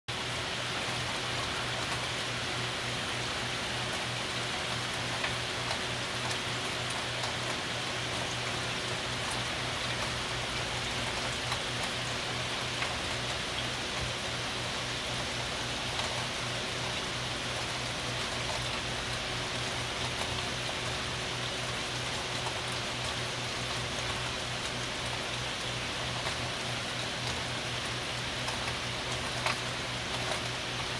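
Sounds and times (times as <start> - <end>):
heavy rain: 0.1 - 30.9.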